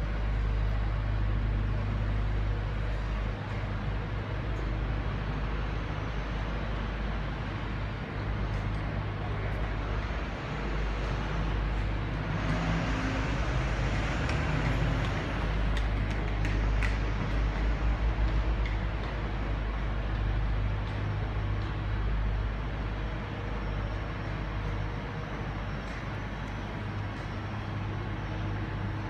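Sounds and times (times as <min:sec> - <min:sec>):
low rumble of trains: 0:00.0 - 0:29.0.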